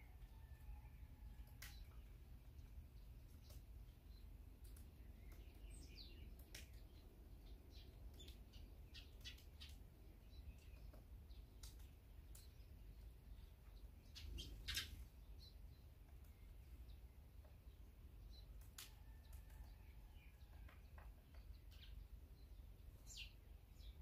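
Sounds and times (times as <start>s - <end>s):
songbirds chirping and calling: 0.0s - 24.0s.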